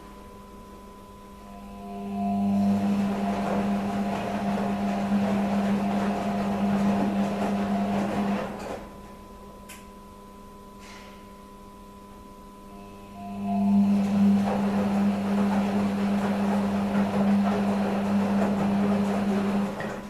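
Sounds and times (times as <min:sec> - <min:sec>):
washing machine running: 0:00.0 - 0:11.2, 0:12.1 - 0:20.0
faint hum: 0:00.0 - 0:19.8.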